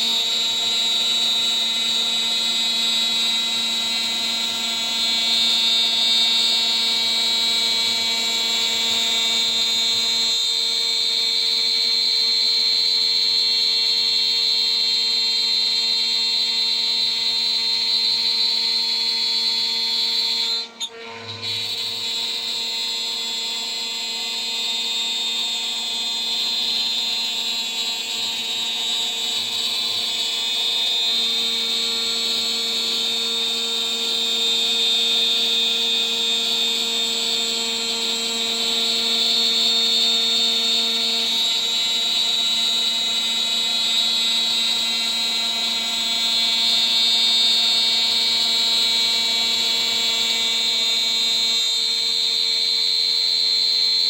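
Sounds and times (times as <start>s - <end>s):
machine spindle whine with cutting hiss: 0.0s - 54.0s.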